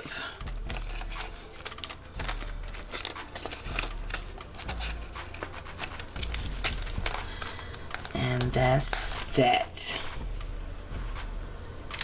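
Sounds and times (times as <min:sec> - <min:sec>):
paper money rustling: 0:00.0 - 0:10.2.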